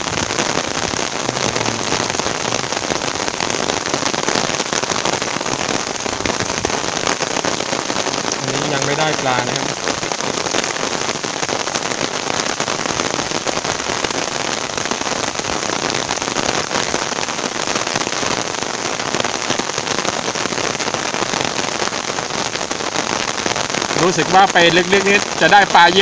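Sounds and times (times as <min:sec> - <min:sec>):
rain falling on water: 0:00.0 - 0:26.0.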